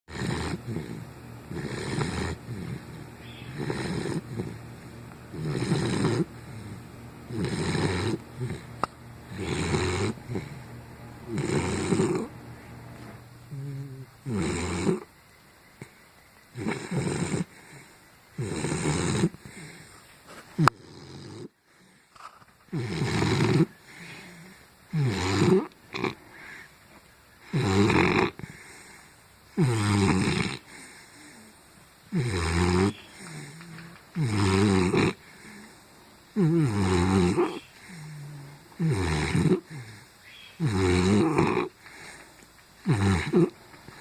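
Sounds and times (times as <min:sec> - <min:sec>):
dog snoring: 0:00.1 - 0:15.1, 0:16.5 - 0:19.9, 0:20.6 - 0:21.8, 0:22.7 - 0:26.4, 0:27.4 - 0:31.5, 0:32.1 - 0:35.7, 0:36.4 - 0:40.0, 0:40.6 - 0:42.2, 0:42.8 - 0:44.0.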